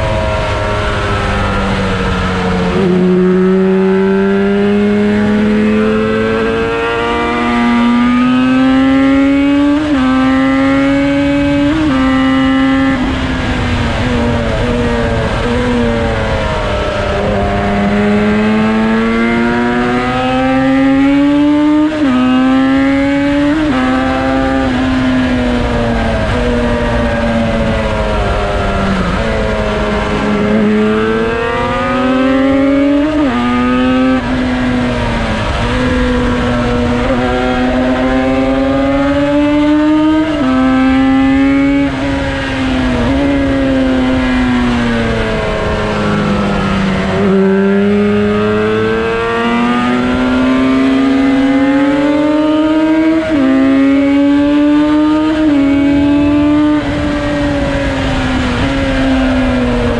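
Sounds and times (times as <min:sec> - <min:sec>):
two-stroke engine racing through gears: 0:00.0 - 0:59.9.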